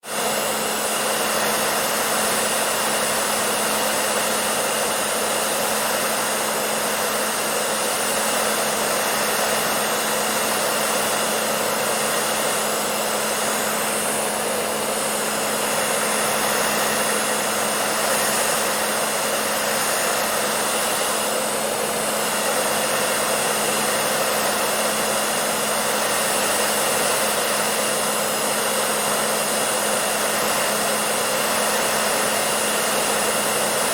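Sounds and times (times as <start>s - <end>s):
hair dryer running: 0.0s - 33.9s.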